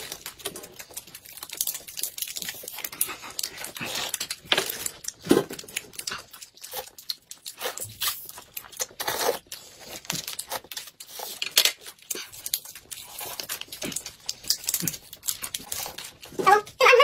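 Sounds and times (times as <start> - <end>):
noodles being slurped: 0.0 - 16.6
plastic wrappers crinkling: 0.0 - 17.0.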